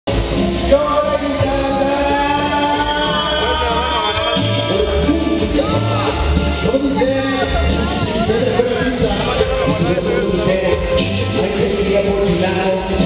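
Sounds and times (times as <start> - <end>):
latin dance music with heavy bass: 0.1 - 13.0
man speaking into a microphone: 0.6 - 13.0.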